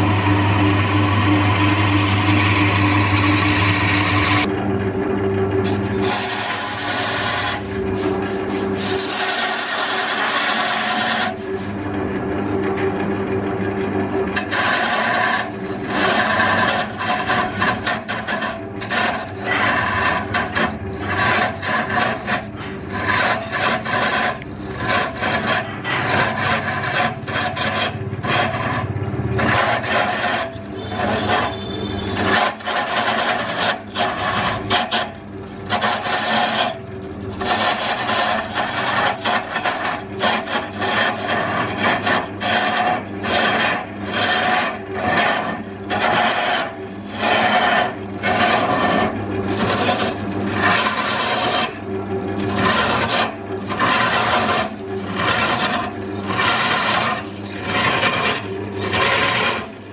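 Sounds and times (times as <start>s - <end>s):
gouge shaving wood on lathe: 0.0s - 4.5s, 5.6s - 11.9s, 14.0s - 59.9s.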